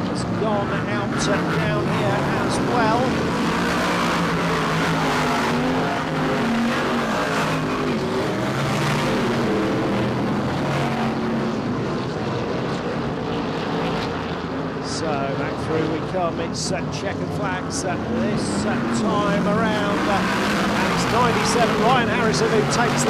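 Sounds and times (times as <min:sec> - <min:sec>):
stock car engines racing: 0:00.0 - 0:23.0.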